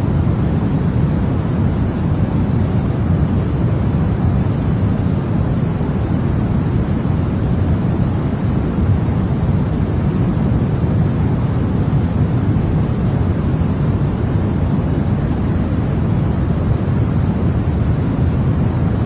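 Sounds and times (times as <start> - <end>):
deep white noise hiss: 0.0 - 19.0.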